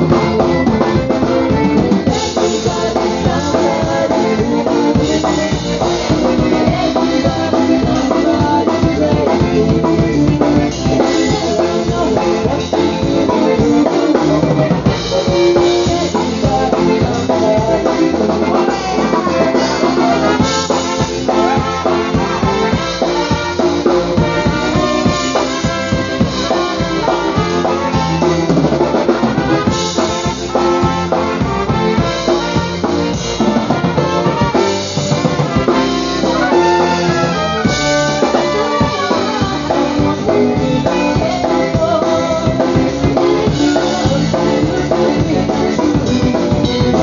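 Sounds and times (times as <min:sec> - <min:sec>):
drum kit beat: 0:00.0 - 0:47.0
polka band brass: 0:00.0 - 0:47.0.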